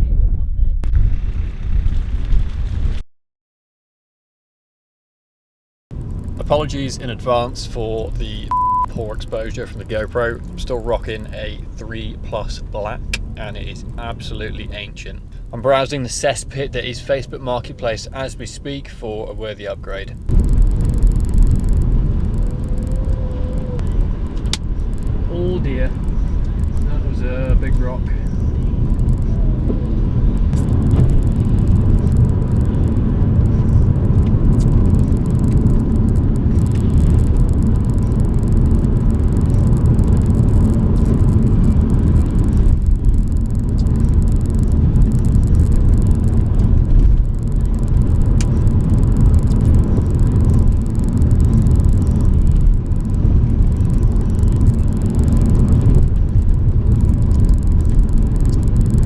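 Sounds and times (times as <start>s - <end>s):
car engine and road rumble: 5.9s - 59.0s.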